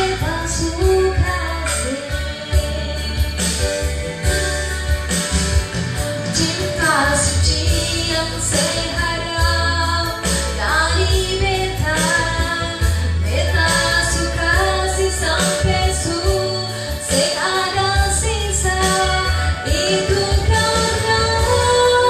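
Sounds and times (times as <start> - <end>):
backing track with bass line: 0.0 - 22.0
woman singing pop song: 0.0 - 22.0.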